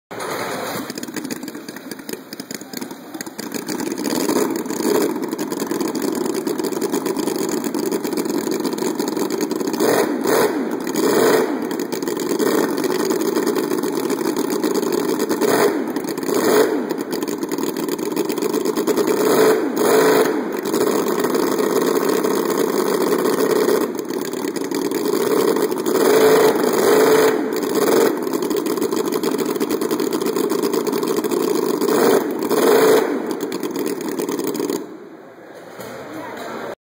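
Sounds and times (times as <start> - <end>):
model engine revving: 0.2 - 34.9.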